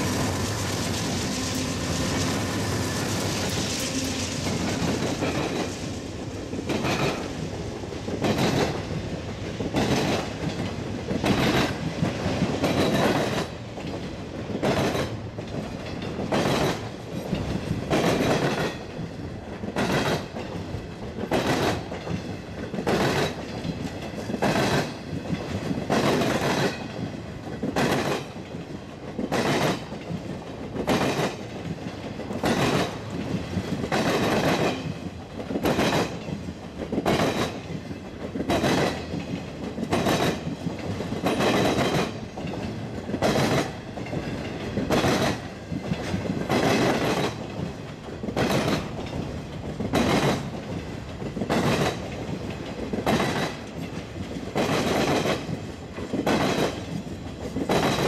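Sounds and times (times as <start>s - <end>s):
train rolling rumble: 0.0s - 58.0s
train wheels clattering over rail joints: 0.0s - 58.0s.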